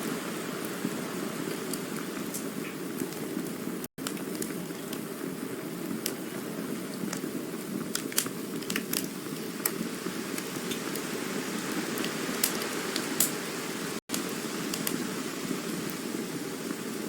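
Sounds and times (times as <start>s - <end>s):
burning wood crackling and popping: 0.0s - 17.0s
campfire hissing: 0.0s - 17.0s.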